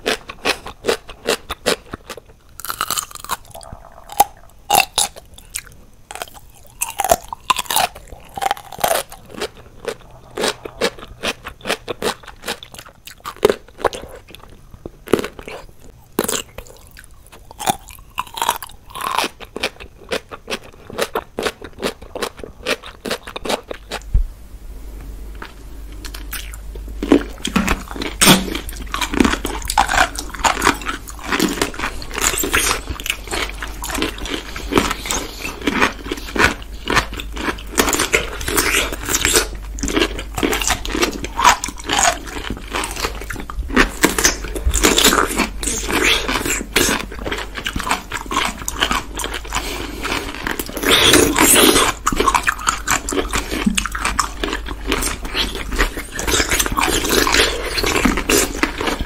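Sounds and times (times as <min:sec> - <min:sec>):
people chewing pickles: 0:00.0 - 0:24.1, 0:25.3 - 0:59.0.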